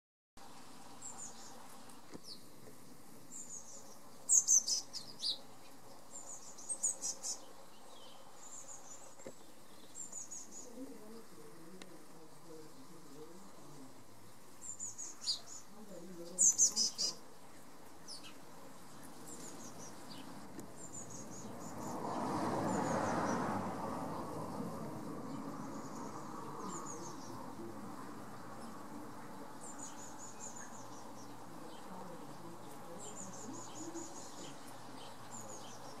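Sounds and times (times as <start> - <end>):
small birds chirping: 0.6 - 36.0.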